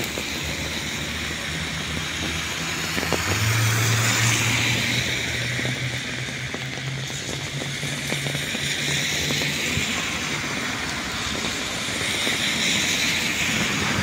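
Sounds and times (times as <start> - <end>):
car tyres swishing on wet asphalt: 0.0 - 14.0
heavy rain on wet street: 0.0 - 14.0
low engine hum: 0.0 - 14.0.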